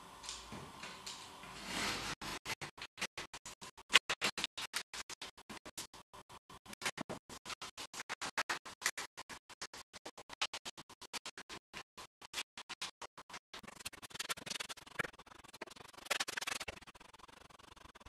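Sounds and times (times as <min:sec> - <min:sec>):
rapid rhythmic scratching: 0:02.0 - 0:18.0.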